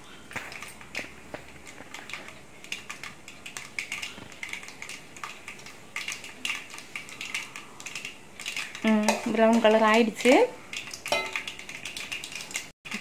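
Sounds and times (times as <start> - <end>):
seeds crackling in hot oil: 0.0 - 13.0.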